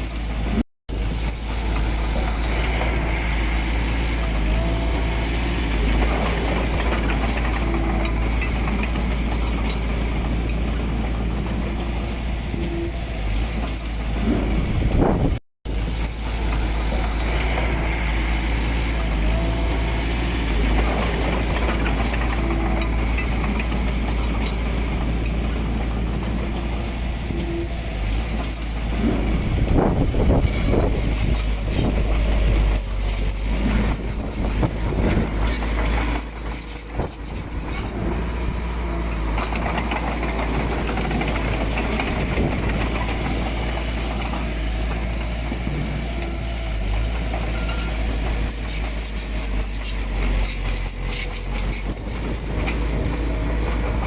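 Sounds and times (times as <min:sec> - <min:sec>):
diesel engine rumbling: 0:00.0 - 0:54.0.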